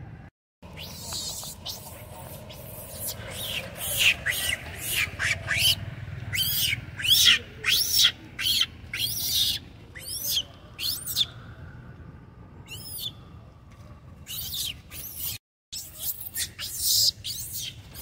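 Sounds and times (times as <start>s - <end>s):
monkey screaming squeals: 0.8s - 11.3s, 12.7s - 13.1s, 14.3s - 18.0s.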